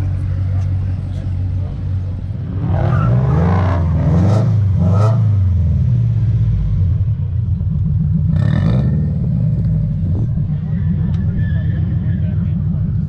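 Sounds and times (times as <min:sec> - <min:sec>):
car engine running loudly: 0:00.0 - 0:13.0.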